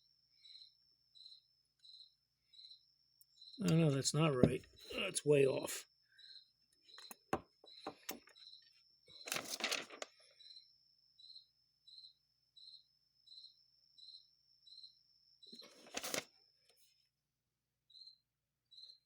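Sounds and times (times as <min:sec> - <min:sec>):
cricket chirping: 0:00.0 - 0:17.1, 0:17.8 - 0:19.0.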